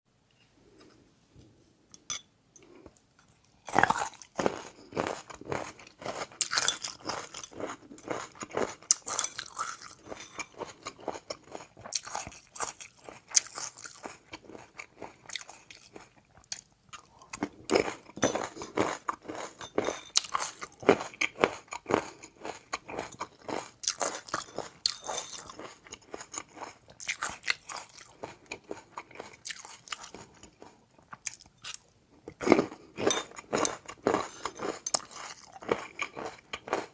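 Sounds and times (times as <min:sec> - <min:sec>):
crunchy chewing: 0:03.7 - 0:36.9.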